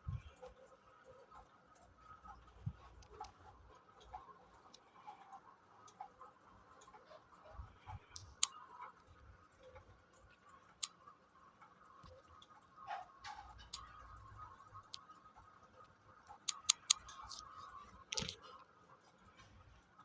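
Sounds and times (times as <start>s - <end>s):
faint clicks and ticks: 0.0s - 20.0s
low steady hum: 0.0s - 20.0s.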